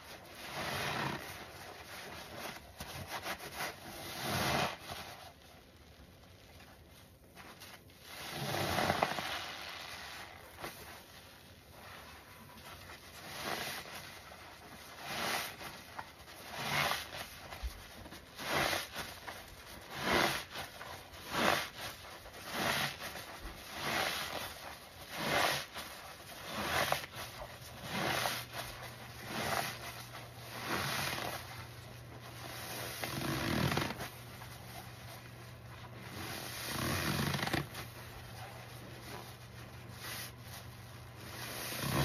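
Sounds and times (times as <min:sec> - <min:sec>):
sponge squelching in suds: 0:00.0 - 0:42.0.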